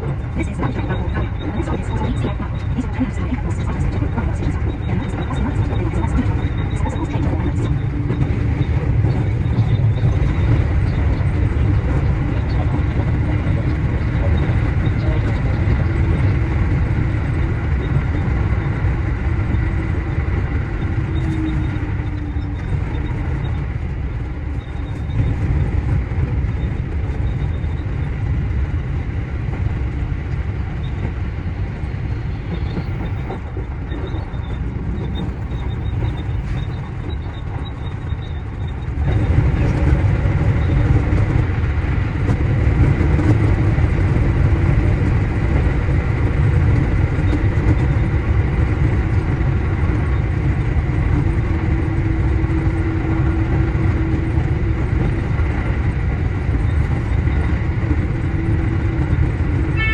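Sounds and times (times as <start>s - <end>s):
steady hum: 0.0s - 59.9s
train wheels and motors rumbling: 0.0s - 59.9s.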